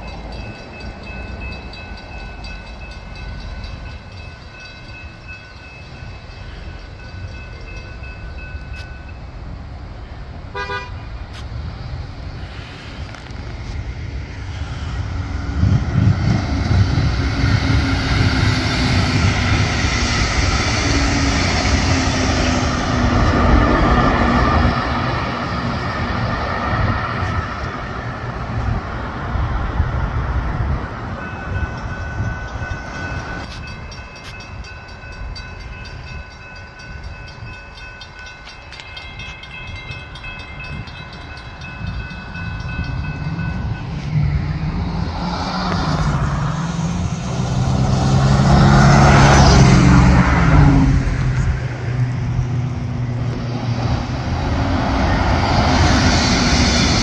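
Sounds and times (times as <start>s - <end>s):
crossing warning bell ringing: 0.0s - 11.1s, 14.5s - 28.8s, 29.7s - 45.5s, 46.1s - 57.0s
passenger train rumbling past: 0.0s - 57.0s.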